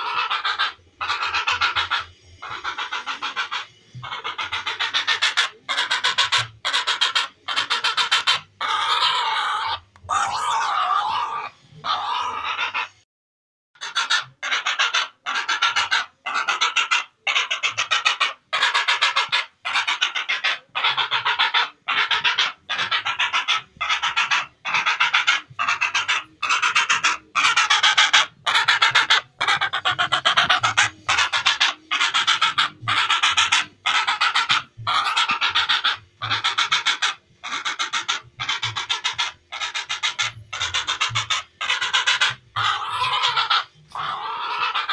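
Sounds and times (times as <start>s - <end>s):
heron croaking calls: 0.0s - 13.0s, 13.8s - 44.9s.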